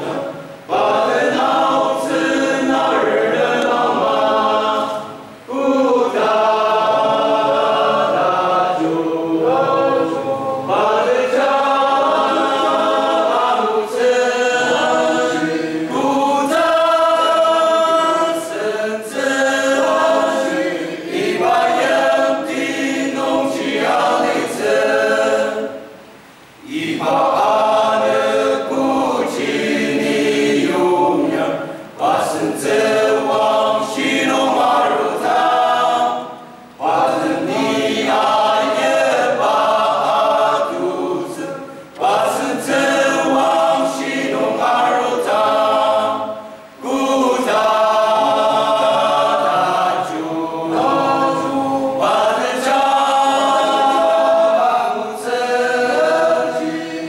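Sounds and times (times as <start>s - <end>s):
male choir singing church music: 0.0s - 57.0s.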